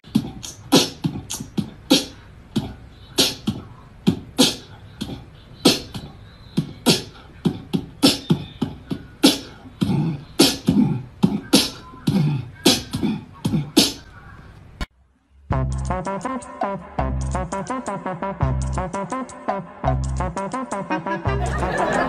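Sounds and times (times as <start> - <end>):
beatboxing mouth percussion: 0.0 - 14.1, 15.6 - 21.4.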